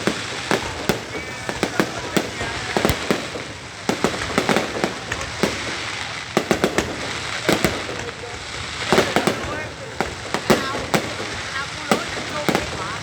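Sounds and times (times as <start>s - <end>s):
continuous haze of noise: 0.0s - 13.0s
firework shells bursting: 0.0s - 13.0s.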